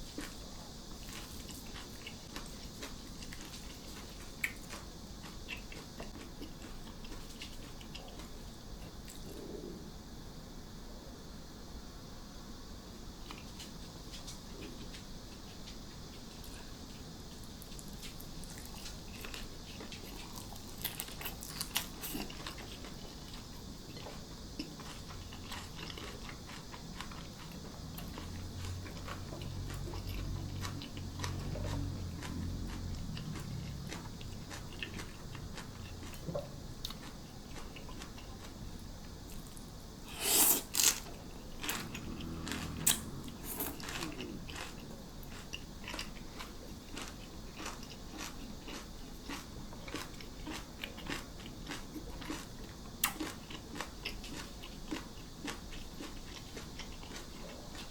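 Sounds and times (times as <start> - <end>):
person chewing and crunching food: 0.0 - 9.5, 13.2 - 57.9.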